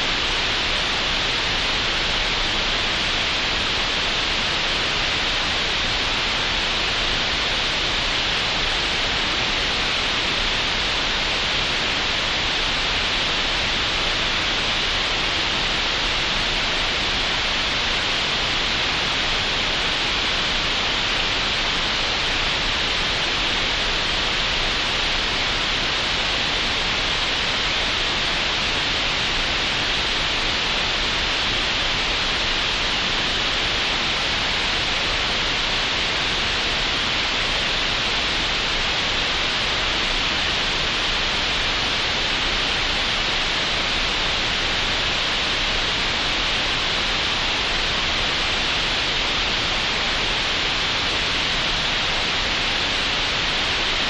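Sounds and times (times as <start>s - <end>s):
steady green noise hiss: 0.0s - 54.0s.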